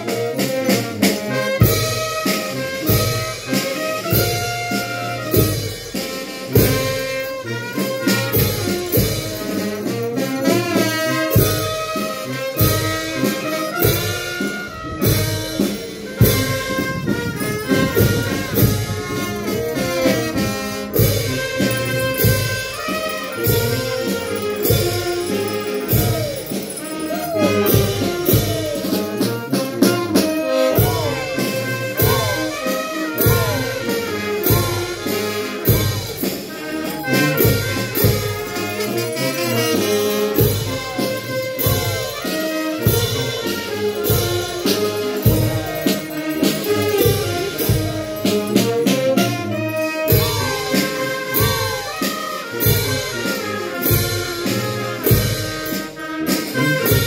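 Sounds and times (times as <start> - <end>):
brass and saxophone dance tune: 0.0 - 57.0
steady drum beat: 0.0 - 57.0.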